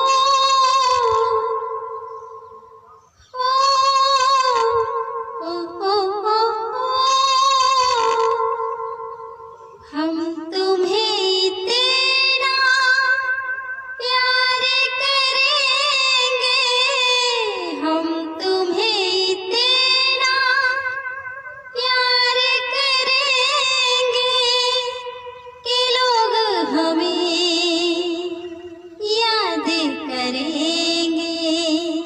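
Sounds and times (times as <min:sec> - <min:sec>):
woman singing with vibrato: 0:00.0 - 0:32.0.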